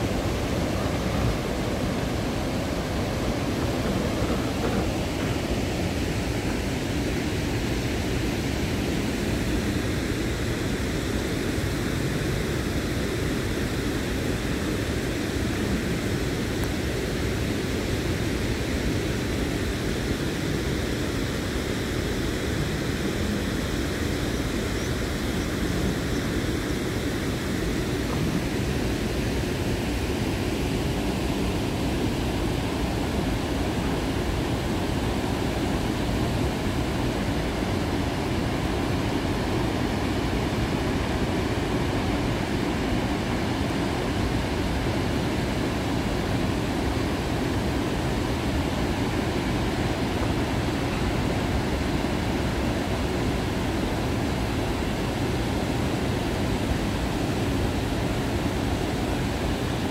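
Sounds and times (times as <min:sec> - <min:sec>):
water rushing over a weir: 0:00.0 - 0:59.9.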